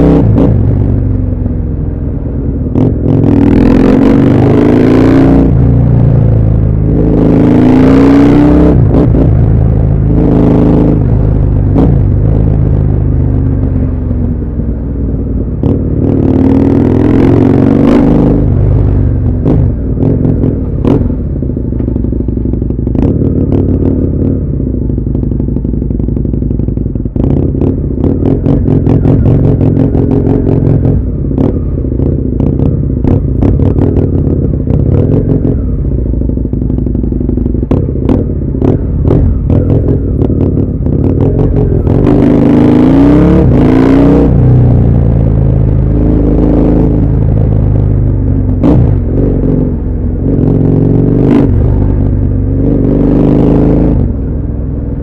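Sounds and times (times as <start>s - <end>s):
motorcycle engine revving: 0.0s - 55.0s
sharp exhaust crackles: 2.5s - 55.0s.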